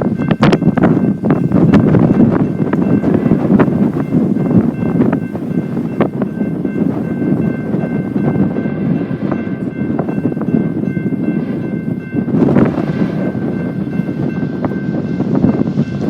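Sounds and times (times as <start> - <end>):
freight train wheels rumbling: 0.0 - 16.0
rail joint clicks: 0.0 - 16.0.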